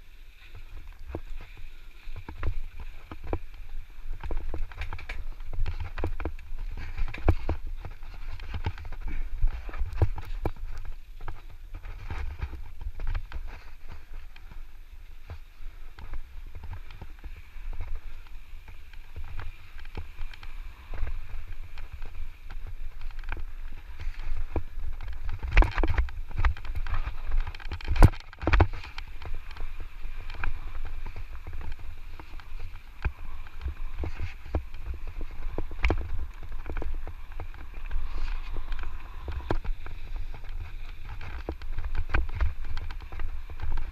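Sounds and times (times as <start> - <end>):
wind rumbling on microphone: 0.0 - 43.9.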